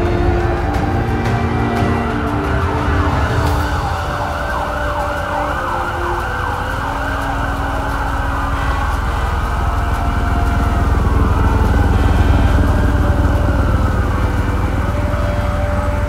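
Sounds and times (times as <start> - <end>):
emergency vehicle siren: 0.0 - 16.0
low steady rumble: 0.0 - 16.0.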